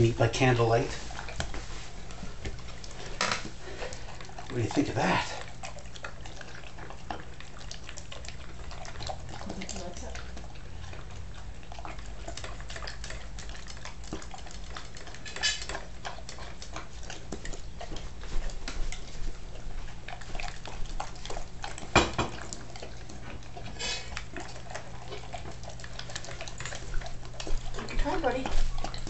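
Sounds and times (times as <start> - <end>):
dog chewing sloppily: 0.0 - 29.0.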